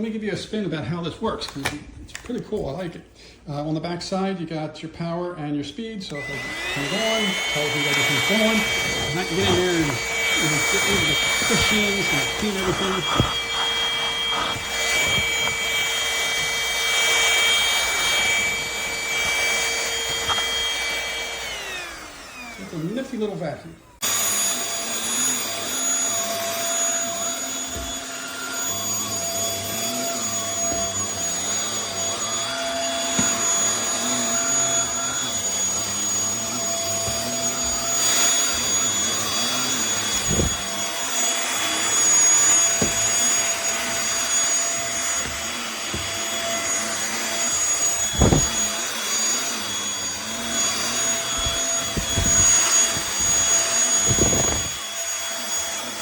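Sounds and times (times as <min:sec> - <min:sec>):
stick vacuum cleaner whining: 0:00.0 - 0:04.4, 0:05.4 - 0:56.0.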